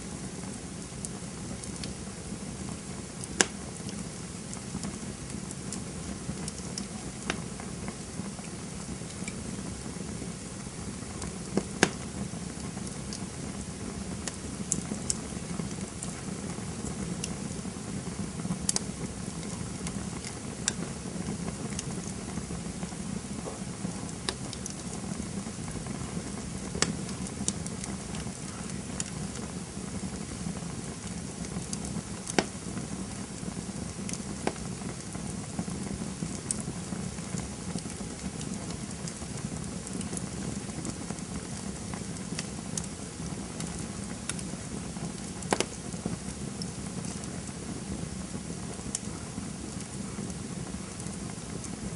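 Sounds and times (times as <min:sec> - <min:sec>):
campfire low rumble: 0:00.0 - 0:51.9
wood crackling and popping: 0:00.0 - 0:51.9.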